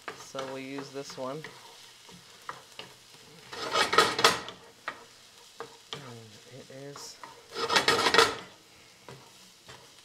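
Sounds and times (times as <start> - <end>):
faint sizzle: 0.0 - 10.0
spatula stirring in skillet: 0.0 - 10.0.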